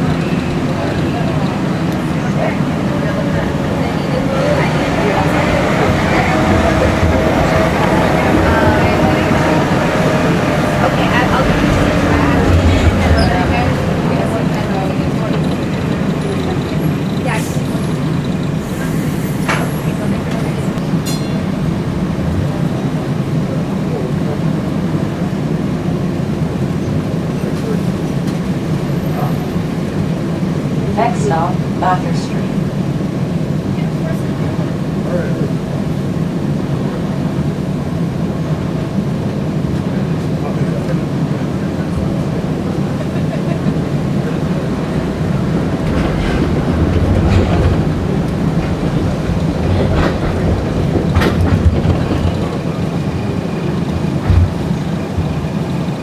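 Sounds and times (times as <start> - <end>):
streetcar rumbling on rails: 0.0 - 56.0.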